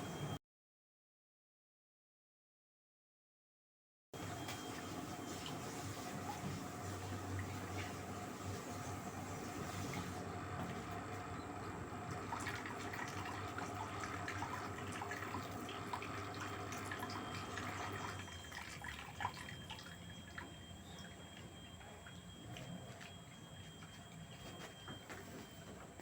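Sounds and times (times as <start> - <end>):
washing machine hum: 0.0 - 0.4, 4.2 - 26.0
water sloshing and dripping: 4.5 - 26.0.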